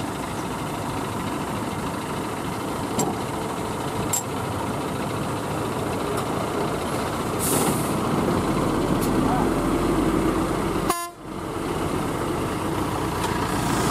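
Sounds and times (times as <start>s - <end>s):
diesel lorry engine under load: 0.0s - 13.9s.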